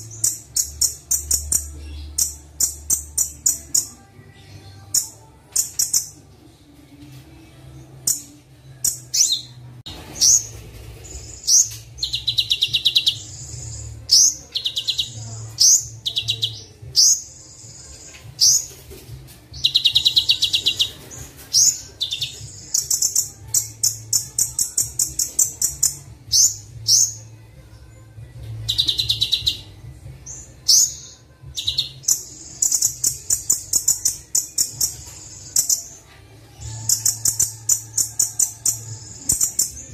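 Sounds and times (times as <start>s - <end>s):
bird chirps and trills: 0.0s - 6.2s, 8.0s - 18.8s, 19.5s - 27.4s, 28.6s - 36.0s, 36.6s - 39.9s.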